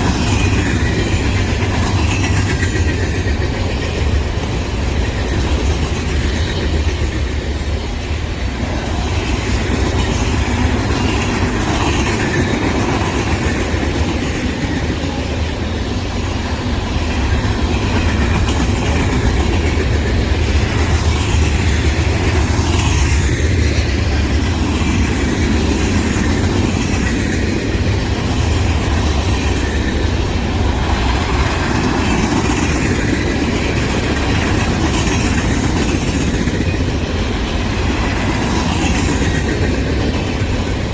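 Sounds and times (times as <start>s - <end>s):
freight train wheels rumbling on track: 0.0s - 40.9s.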